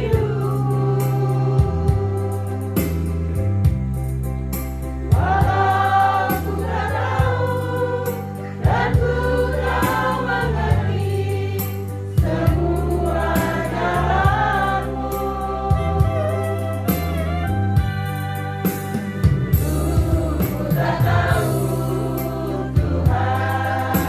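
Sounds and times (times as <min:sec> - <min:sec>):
congregation singing a hymn: 0:00.0 - 0:03.5, 0:05.0 - 0:17.5, 0:19.0 - 0:24.0
electronic keyboard bass notes: 0:00.0 - 0:24.0.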